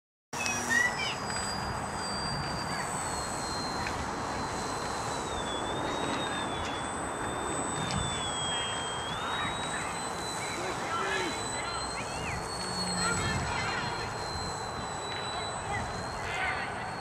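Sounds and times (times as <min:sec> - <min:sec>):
model plane motor whining: 0:00.4 - 0:17.0
wind on microphone: 0:00.5 - 0:17.0.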